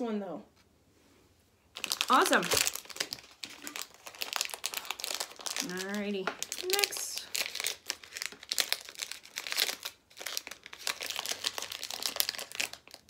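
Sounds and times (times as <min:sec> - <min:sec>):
plastic package crinkling: 0:01.7 - 0:13.0.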